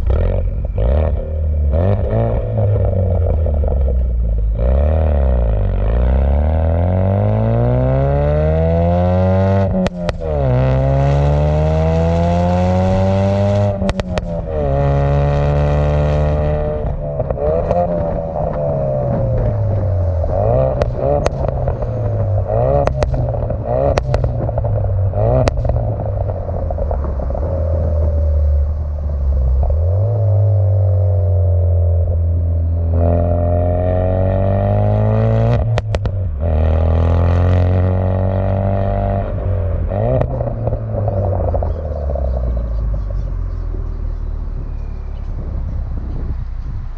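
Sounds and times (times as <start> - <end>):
car engine accelerating: 0.0 - 46.9
exhaust cracks: 0.0 - 46.9.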